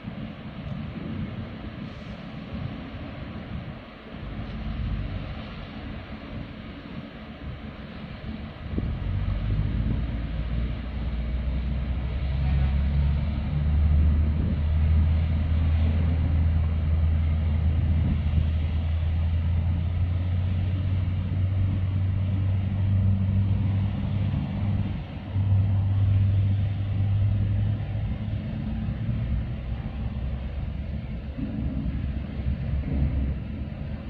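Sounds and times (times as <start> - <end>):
ship engines rumbling: 0.0 - 34.0.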